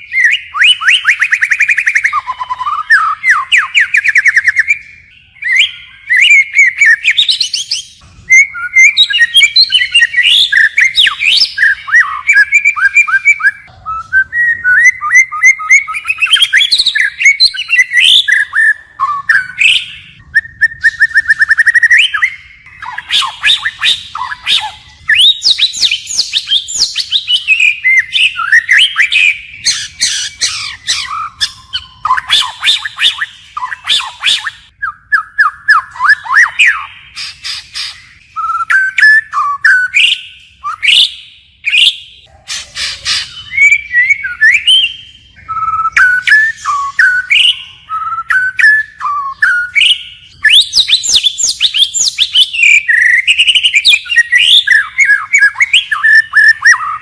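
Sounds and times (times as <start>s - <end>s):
songbird trills and whistles: 0.0s - 57.0s.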